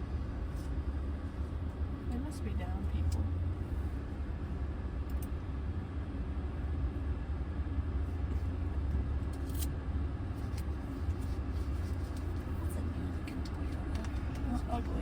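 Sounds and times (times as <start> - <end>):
car idling from inside cabin: 0.0 - 15.0.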